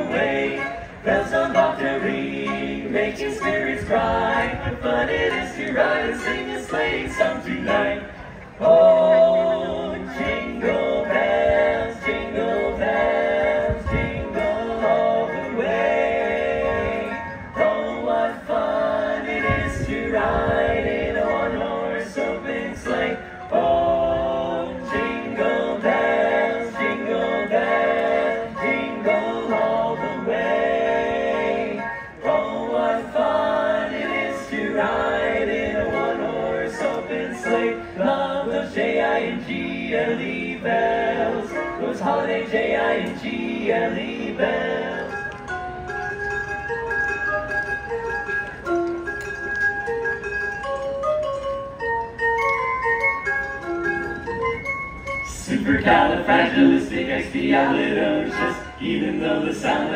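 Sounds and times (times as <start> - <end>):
vocal quartet singing in harmony: 0.0 - 47.1, 52.1 - 59.9.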